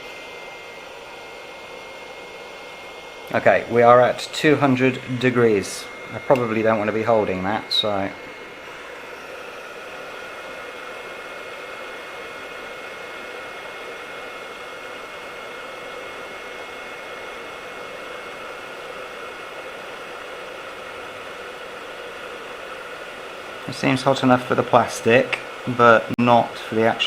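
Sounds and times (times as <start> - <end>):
faint steady whine: 0.0 - 27.0
hot air gun fan hiss: 0.0 - 27.0.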